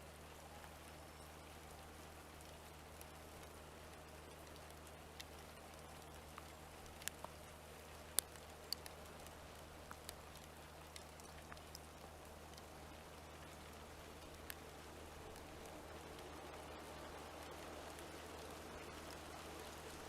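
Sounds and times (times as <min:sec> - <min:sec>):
faint steady hiss: 0:00.0 - 0:20.0
low steady hum: 0:00.0 - 0:20.0
rain drips ticking: 0:00.1 - 0:20.0.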